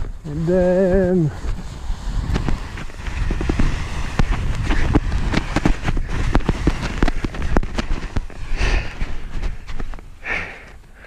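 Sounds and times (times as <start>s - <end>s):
footsteps crunching in snow: 0.0s - 10.8s
trekking poles planting: 0.0s - 11.0s
wind buffeting microphone: 0.0s - 11.0s.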